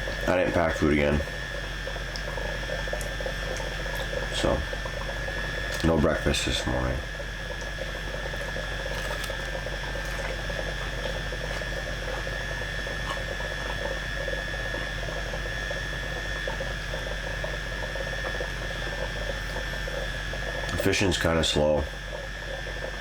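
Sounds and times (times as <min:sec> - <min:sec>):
mechanical hum and hiss: 0:00.0 - 0:23.0.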